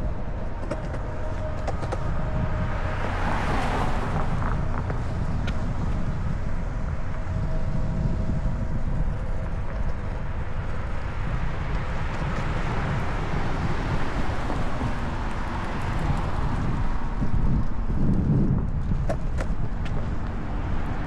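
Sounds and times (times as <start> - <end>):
longboard wheels rolling on asphalt: 0.0 - 21.0
wind on microphone: 0.0 - 21.0.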